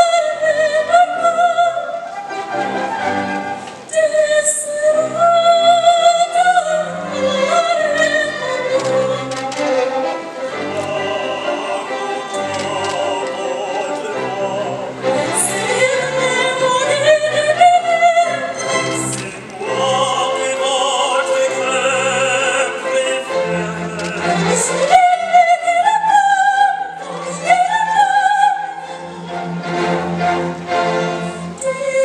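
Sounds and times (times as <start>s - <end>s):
woman singing opera: 0.0s - 29.6s, 31.2s - 32.0s
string orchestra: 0.0s - 32.0s.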